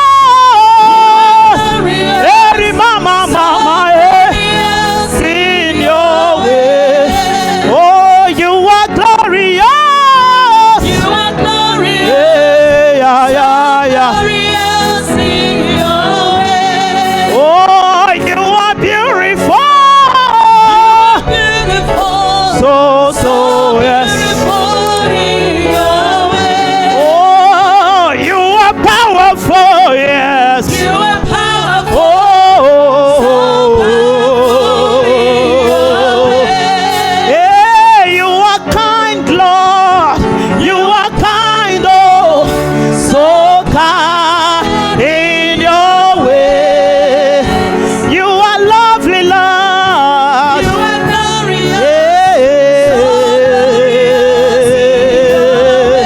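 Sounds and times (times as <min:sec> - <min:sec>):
person singing gospel song: 0:00.0 - 0:56.0
sustained instrumental backing: 0:00.0 - 0:56.0.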